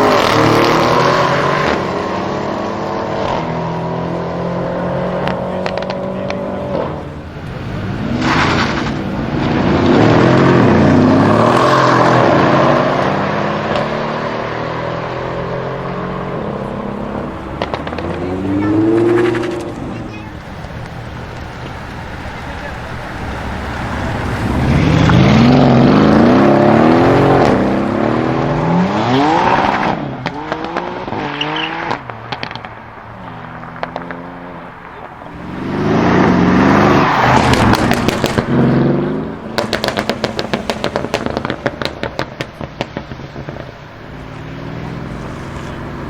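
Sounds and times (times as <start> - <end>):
car engine revving hard: 0.0 - 46.0
exhaust crackles and pops: 4.6 - 46.0.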